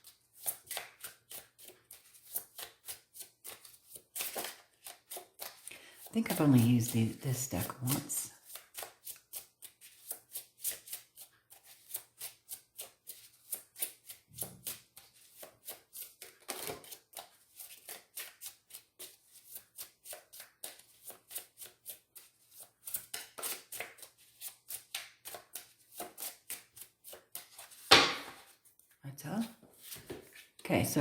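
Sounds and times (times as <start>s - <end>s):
cards being shuffled: 0.0s - 28.6s, 29.7s - 30.6s.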